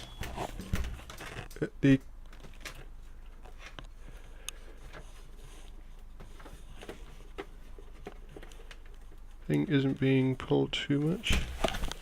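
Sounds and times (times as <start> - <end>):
small clicks and handling noises: 0.0 - 12.0.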